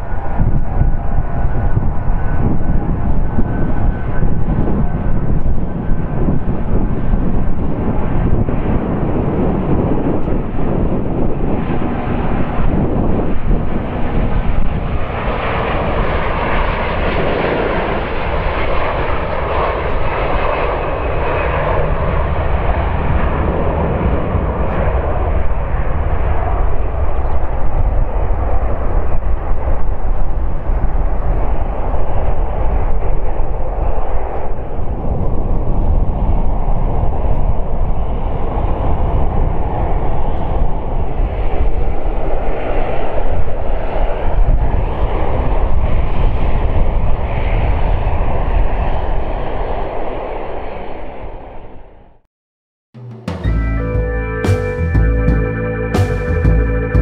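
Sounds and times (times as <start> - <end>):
jet engines at takeoff thrust: 0.0 - 52.2.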